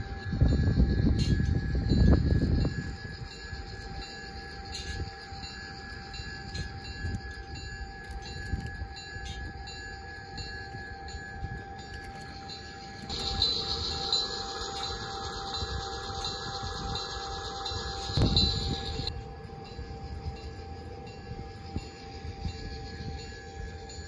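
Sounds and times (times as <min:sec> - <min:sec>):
model train wheels clicking on rails: 0:00.0 - 0:24.0
steady humming tone: 0:00.0 - 0:24.0.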